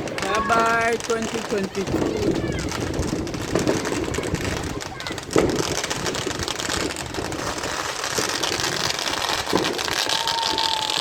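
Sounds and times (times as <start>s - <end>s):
firework bang: 0.0s - 11.0s
fireworks crackling: 0.0s - 11.0s.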